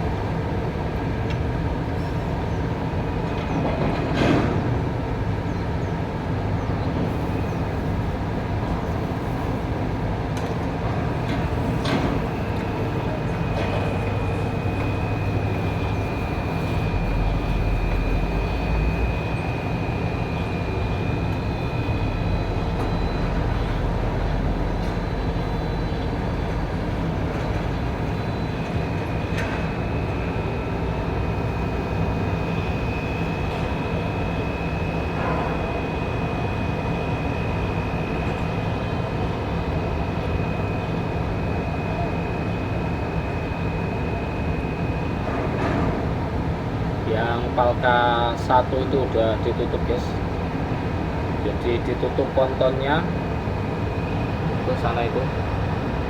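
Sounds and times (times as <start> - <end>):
machinery low drone: 0.0 - 56.0
high machine whine: 7.0 - 56.0.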